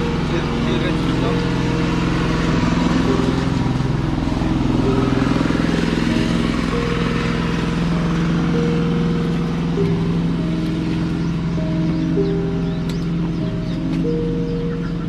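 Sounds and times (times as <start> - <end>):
held higher tones: 0.0 - 15.0
motorcycle engine idling: 0.0 - 15.0.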